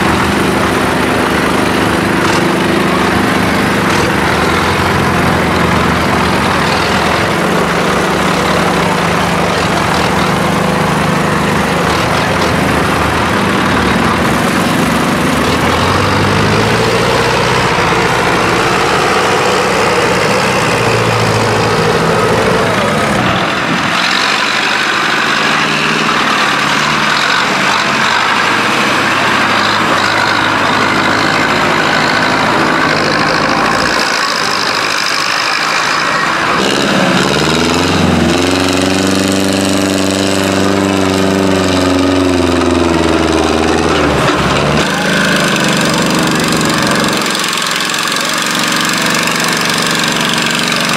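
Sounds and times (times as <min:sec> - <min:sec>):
tractor engine revving: 0:00.0 - 0:50.9.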